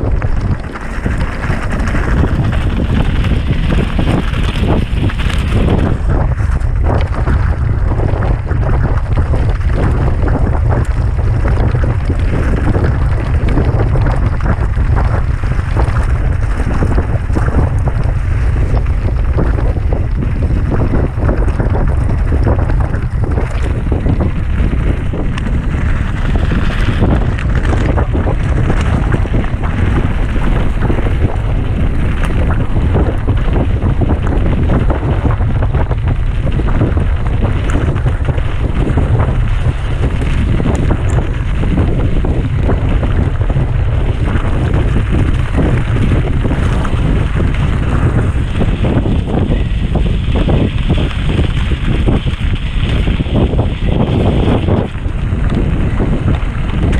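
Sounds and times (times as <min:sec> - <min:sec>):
bike rattling and knocking: 0:00.0 - 0:56.9
wind buffeting microphone: 0:00.0 - 0:56.9.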